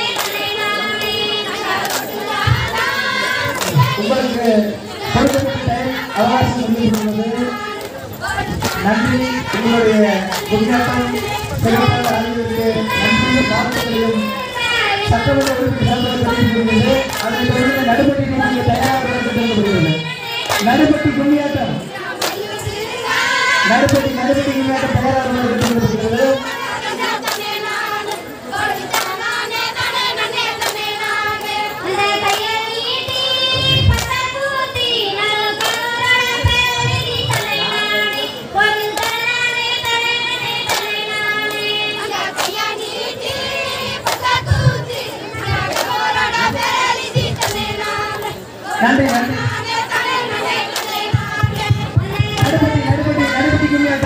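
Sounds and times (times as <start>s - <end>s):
hand claps: 0.0s - 4.4s, 5.0s - 54.0s
women singing in chorus: 0.0s - 54.0s.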